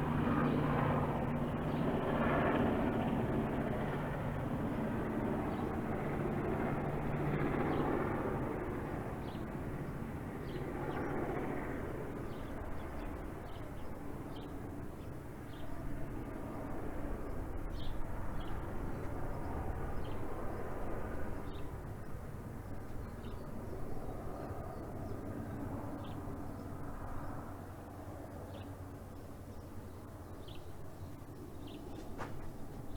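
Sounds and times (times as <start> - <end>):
helicopter flying past: 0.0 - 32.9.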